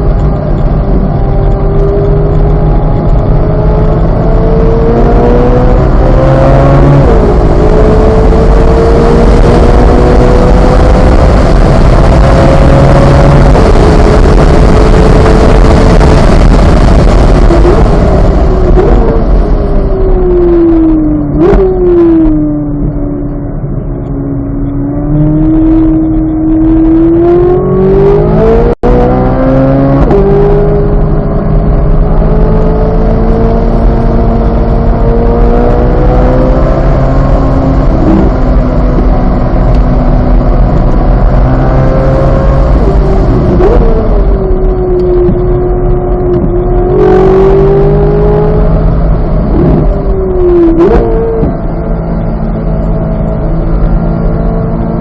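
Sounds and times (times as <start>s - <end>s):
gear change: 0.0s - 55.0s
road and tyre rumble: 0.0s - 55.0s
sports car engine revving: 0.0s - 55.0s.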